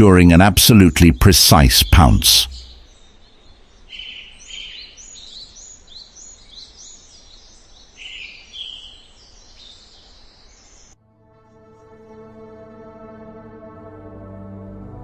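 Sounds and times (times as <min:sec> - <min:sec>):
birds chirping: 0:00.0 - 0:12.6
faint forest ambience hiss: 0:00.0 - 0:15.0.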